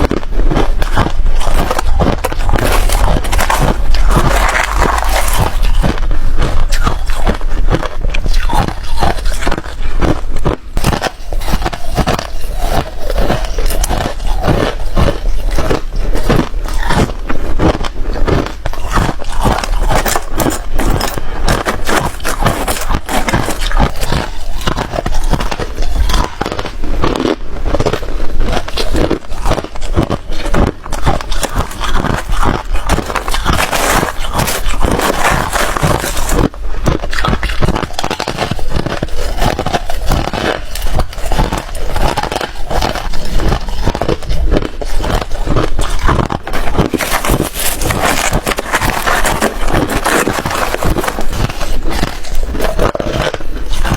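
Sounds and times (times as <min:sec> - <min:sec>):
ice crunching while chewed: 0:00.0 - 0:53.9.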